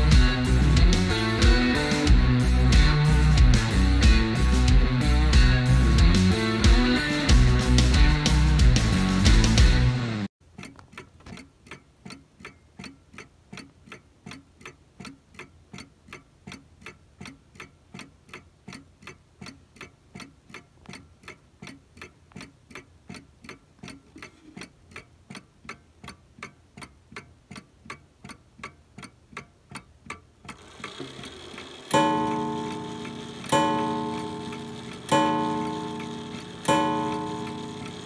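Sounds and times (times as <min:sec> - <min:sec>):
clock ticking: 0:00.0 - 0:08.4, 0:10.4 - 0:38.0.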